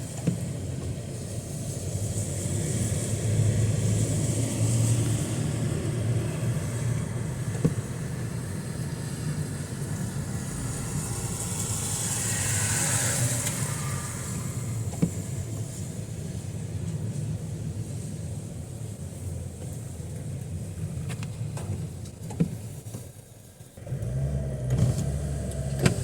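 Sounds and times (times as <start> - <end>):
low engine rumble: 0.0 - 26.0
tyre hiss on wet road: 0.0 - 26.0.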